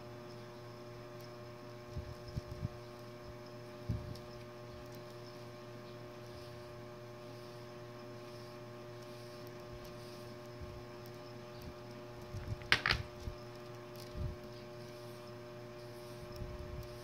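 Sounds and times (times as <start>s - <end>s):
steady hum of fixed tones: 0.0s - 17.0s.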